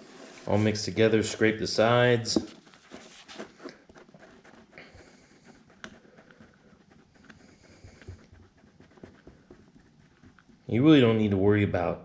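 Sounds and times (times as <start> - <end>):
stir stick scraping plastic cup: 0.0 - 11.4.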